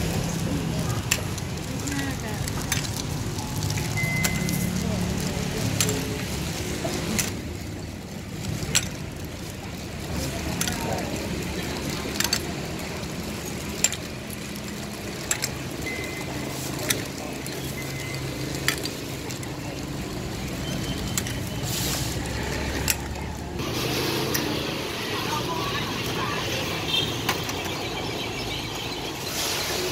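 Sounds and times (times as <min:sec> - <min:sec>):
ice cubes clinking: 0:00.0 - 0:24.6
street traffic hum: 0:00.0 - 0:29.9.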